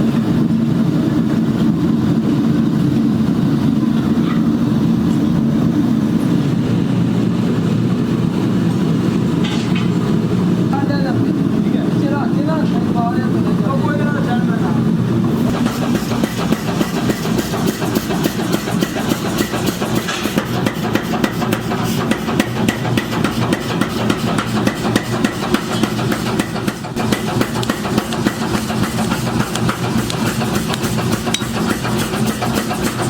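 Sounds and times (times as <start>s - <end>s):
machinery humming: 0.0s - 33.0s.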